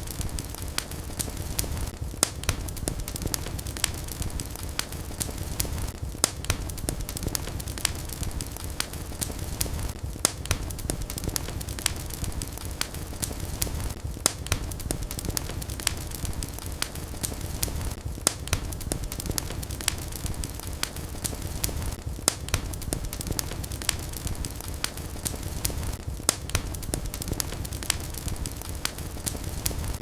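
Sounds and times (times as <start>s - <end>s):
fire crackling and popping: 0.0s - 30.0s
flames rumbling: 0.0s - 30.0s.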